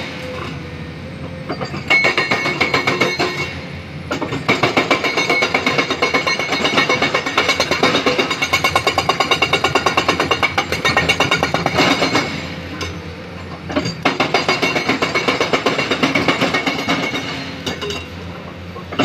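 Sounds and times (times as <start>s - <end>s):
machinery pounding: 1.5s - 19.0s.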